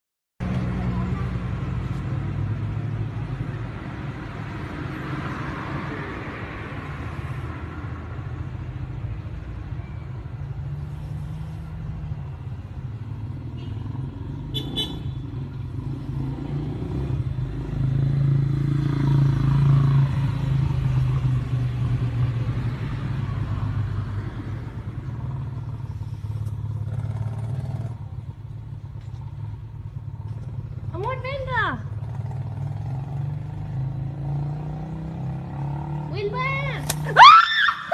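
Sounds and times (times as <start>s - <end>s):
vehicle engine hum: 0.4s - 37.9s.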